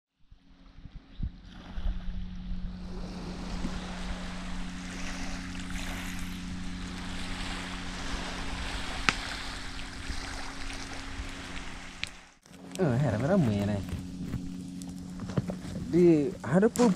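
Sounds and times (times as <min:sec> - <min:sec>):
wind: 0:00.1 - 0:16.9
low engine hum: 0:00.3 - 0:16.9
waves: 0:00.4 - 0:13.8, 0:14.7 - 0:16.9.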